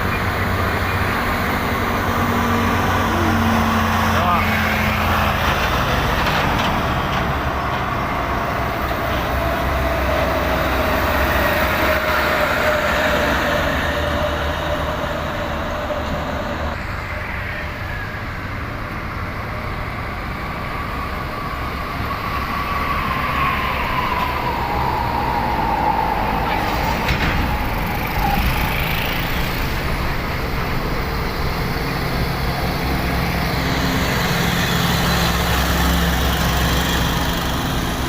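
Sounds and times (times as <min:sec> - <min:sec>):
diesel truck engine labouring: 0:00.0 - 0:38.0.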